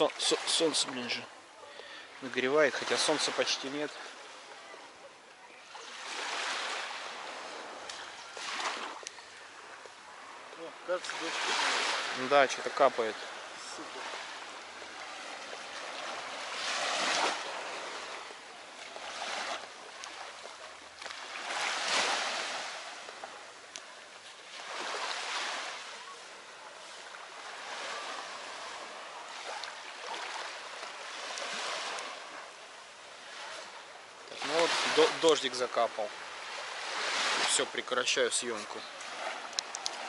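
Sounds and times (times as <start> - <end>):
small waves washing on beach: 0.0 - 40.0.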